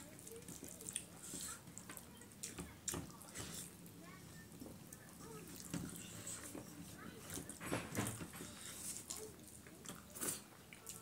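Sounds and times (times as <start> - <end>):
chewing: 0.1 - 3.8, 4.9 - 11.0.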